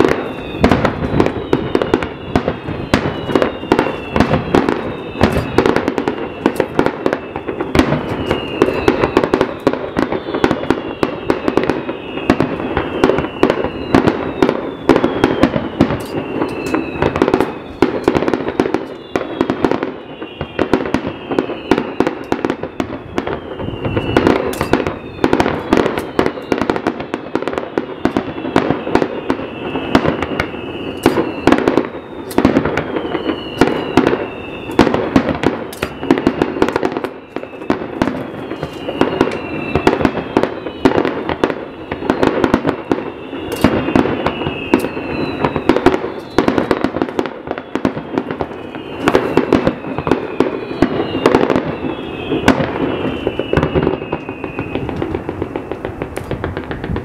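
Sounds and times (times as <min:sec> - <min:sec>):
falling firework whistles: 0:00.0 - 0:57.0
fireworks bangs and crackles: 0:00.0 - 0:57.0.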